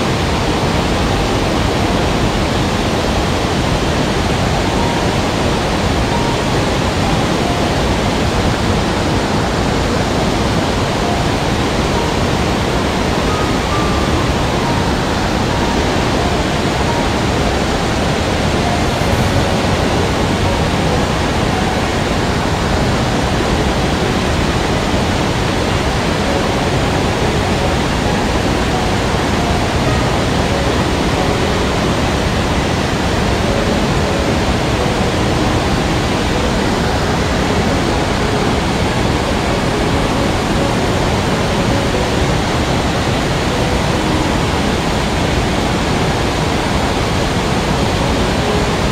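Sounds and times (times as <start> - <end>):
mountain stream rushing: 0.0 - 48.9.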